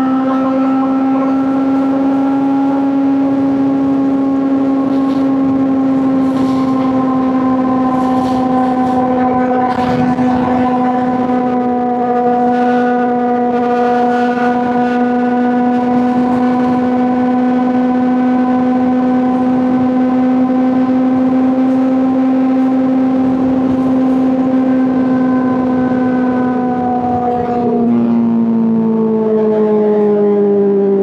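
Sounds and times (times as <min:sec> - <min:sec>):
motorcycle engine at high revs: 0:00.0 - 0:30.2.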